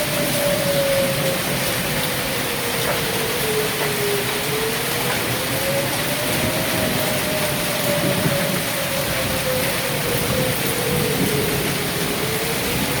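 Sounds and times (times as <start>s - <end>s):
heavy rain: 0.0s - 13.0s
siren wailing: 0.0s - 13.0s.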